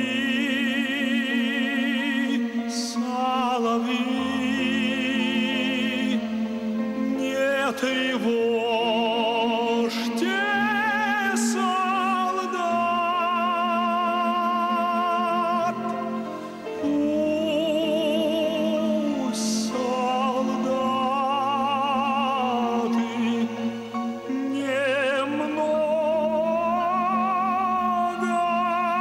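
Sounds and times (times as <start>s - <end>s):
instrumental accompaniment: 0.0s - 29.0s
man singing with vibrato: 0.0s - 29.0s.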